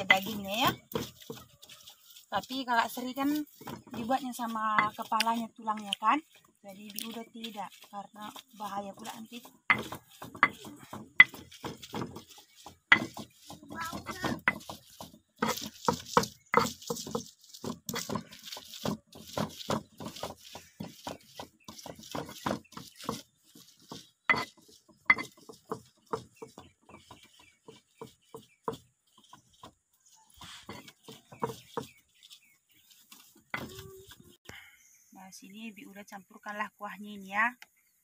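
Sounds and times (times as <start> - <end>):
stone pestle grinding in mortar: 0.0 - 34.4.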